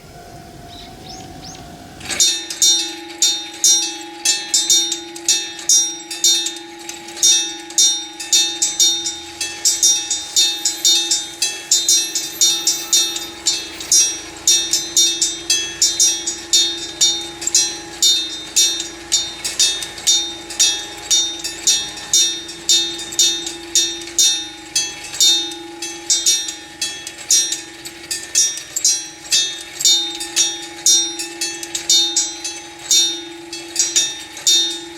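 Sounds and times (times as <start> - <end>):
level crossing bell ringing: 0.0 - 34.9.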